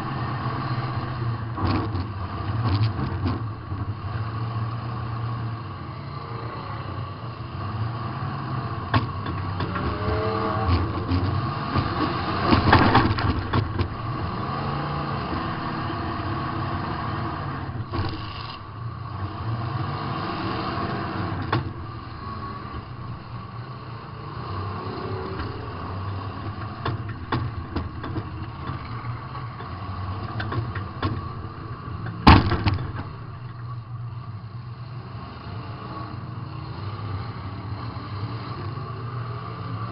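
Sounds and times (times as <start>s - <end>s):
car engine revving: 0.0s - 32.4s.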